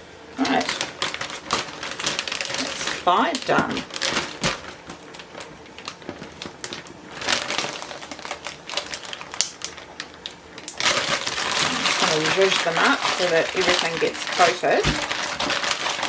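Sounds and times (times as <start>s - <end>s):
plastic bag crinkling: 0.4s - 16.0s.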